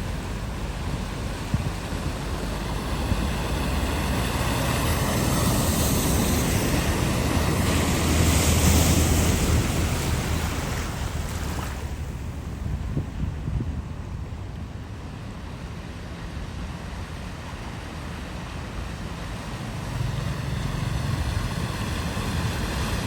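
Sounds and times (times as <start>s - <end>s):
rushing spraying water: 0.0s - 12.6s, 15.4s - 23.0s
vehicle engine hum: 0.0s - 23.0s.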